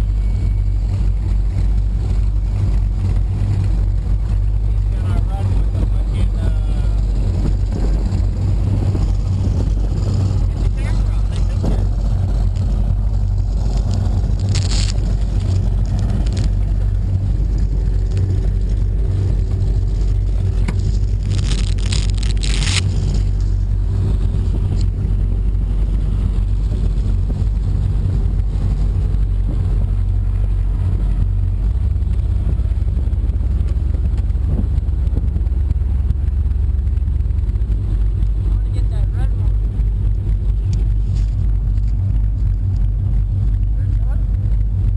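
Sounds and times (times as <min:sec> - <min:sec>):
powerboat engines rumbling: 0:00.0 - 0:44.9.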